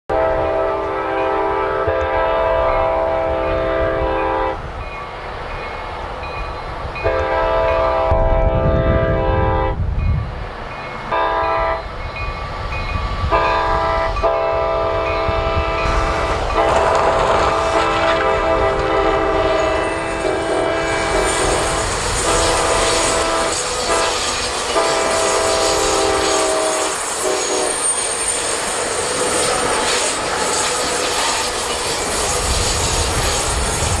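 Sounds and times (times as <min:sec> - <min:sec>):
train air horn blasts: 0:00.1 - 0:04.7, 0:07.0 - 0:09.8, 0:11.1 - 0:11.9, 0:13.2 - 0:34.0
passing train: 0:00.1 - 0:34.0.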